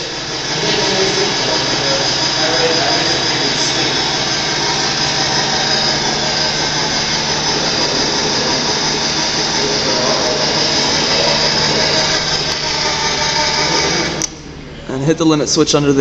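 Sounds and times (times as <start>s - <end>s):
electric bed motor running: 0.0s - 14.8s.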